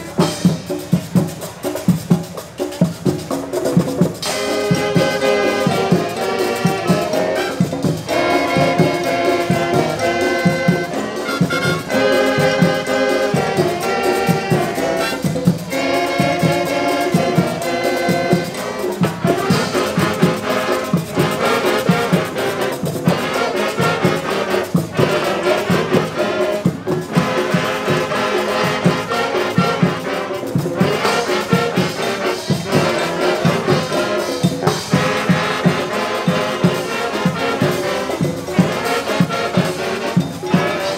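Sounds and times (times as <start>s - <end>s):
steady drum beat: 0.0s - 40.9s
brass chords: 4.0s - 40.9s.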